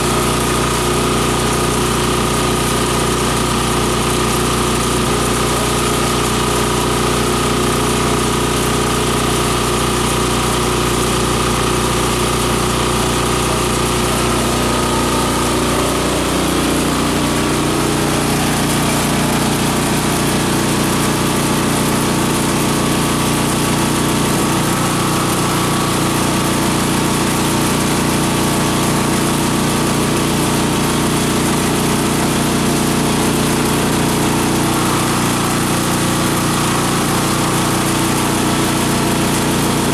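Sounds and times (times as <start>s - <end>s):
food chopper machine droning: 0.0s - 39.9s.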